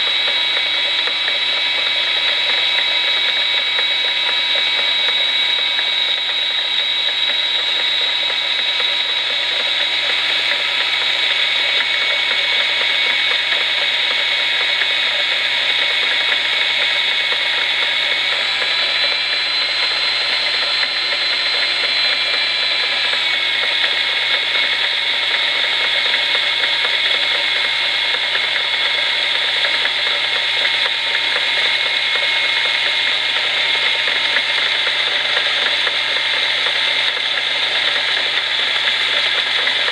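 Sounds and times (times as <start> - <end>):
die grinder high whine: 0.0 - 39.9
lathe running: 0.0 - 39.9.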